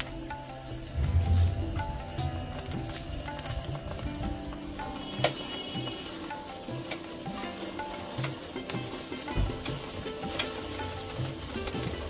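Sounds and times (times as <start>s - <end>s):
embers popping: 0.0s - 12.0s
meat sizzling over charcoal: 0.0s - 12.0s
soft background music: 0.0s - 12.0s.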